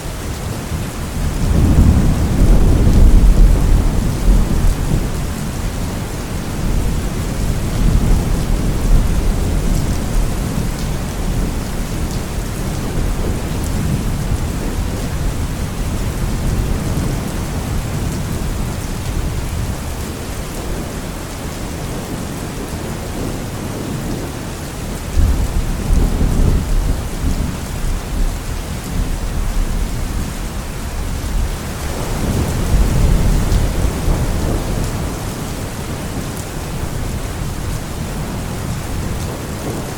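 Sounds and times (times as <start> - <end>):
steady rain: 0.0 - 39.9
thunder rumbling: 0.0 - 39.9
thunderclap: 1.2 - 20.0, 25.2 - 39.9.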